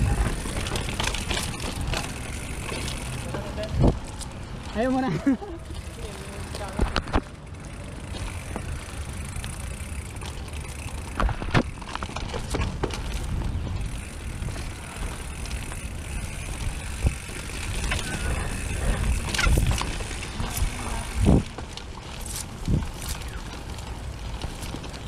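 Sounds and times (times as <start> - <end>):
bike knocks and rattles: 0.0 - 5.0, 8.0 - 25.0
bike tyres rumbling on dirt: 0.0 - 25.0.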